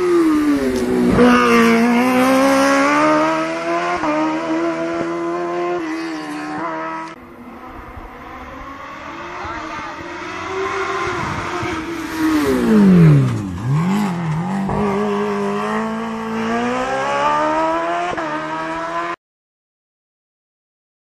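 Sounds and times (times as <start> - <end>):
motorcycle engine revving high: 0.0 - 7.0, 7.9 - 19.2.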